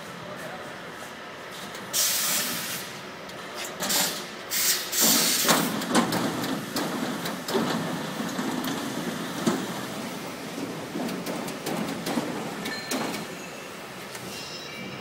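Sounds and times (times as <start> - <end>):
conveyor clanks and rattles: 0.0 - 15.0.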